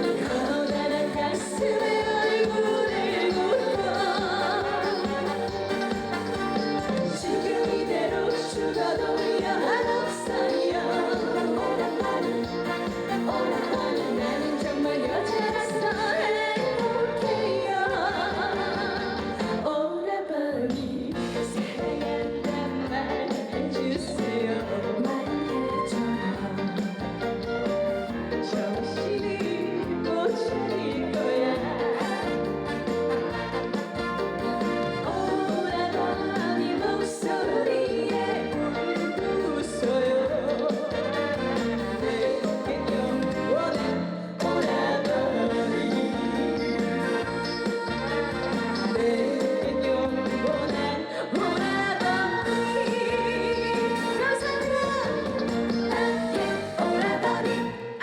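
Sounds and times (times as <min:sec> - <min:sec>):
live band with steady beat: 0:00.0 - 0:19.8, 0:20.8 - 0:58.0
backing track music: 0:00.0 - 0:19.9, 0:20.8 - 0:58.0
woman singing: 0:00.0 - 0:27.1, 0:28.2 - 0:58.0.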